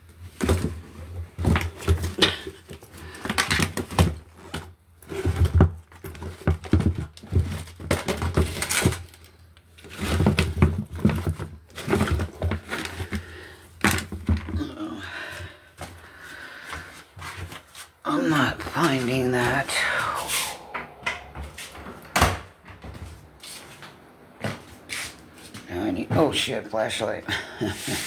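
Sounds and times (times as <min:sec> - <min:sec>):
objects rummaged through by hand: 0:00.2 - 0:24.8.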